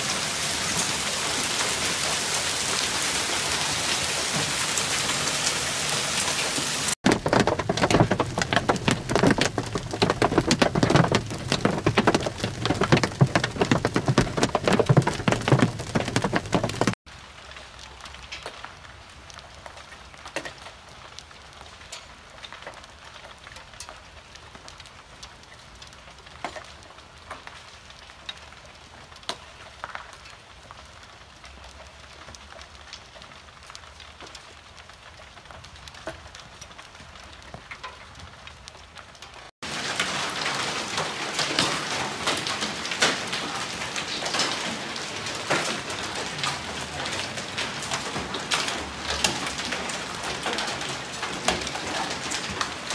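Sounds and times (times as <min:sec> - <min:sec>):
hail on trampoline mat: 0:00.0 - 0:52.9
hail pattering on ground: 0:00.0 - 0:52.9.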